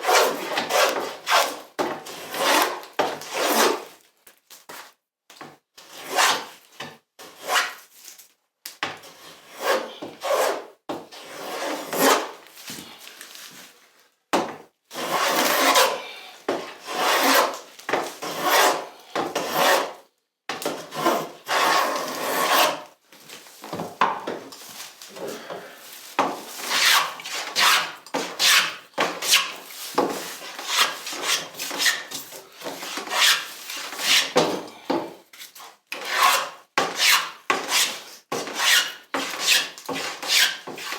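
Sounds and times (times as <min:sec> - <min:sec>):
hand tool scraping wood: 0:00.0 - 0:03.9, 0:09.0 - 0:13.0, 0:14.9 - 0:40.9.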